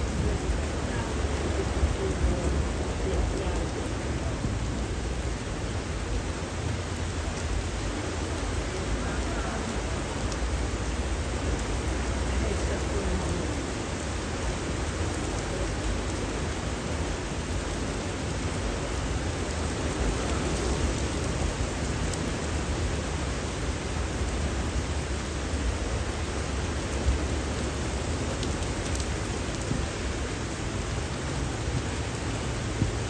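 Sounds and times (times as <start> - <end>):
rain falling on leaves: 0.0 - 33.0.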